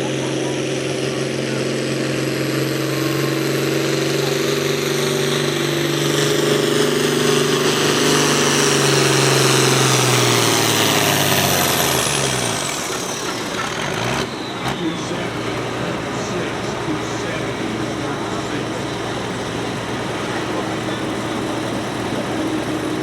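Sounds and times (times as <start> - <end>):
engine running at high revs: 0.0 - 23.0
high whine: 0.8 - 23.0.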